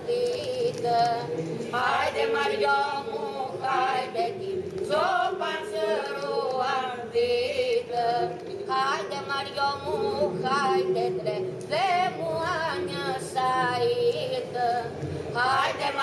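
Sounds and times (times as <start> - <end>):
women singing unaccompanied: 0.0 - 16.0.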